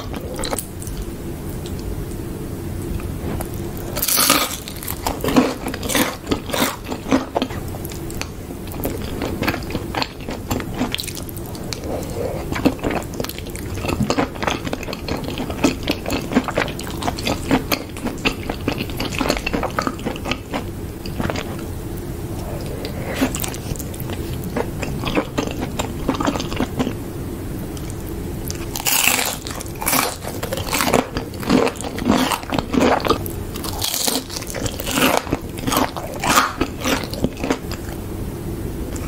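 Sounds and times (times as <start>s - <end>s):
chewing and crunching: 0.0s - 1.9s, 3.0s - 21.7s, 22.4s - 27.0s, 27.7s - 38.0s.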